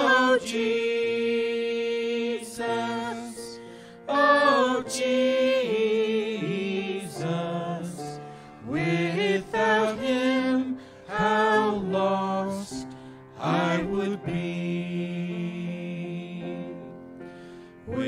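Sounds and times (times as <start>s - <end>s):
singers performing slow gospel song: 0.0s - 18.0s.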